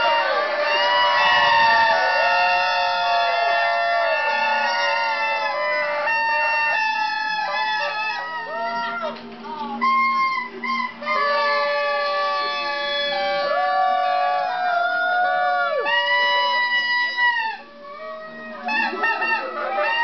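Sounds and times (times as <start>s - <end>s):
party horns blowing: 0.0s - 14.5s, 15.7s - 17.8s, 18.6s - 20.0s.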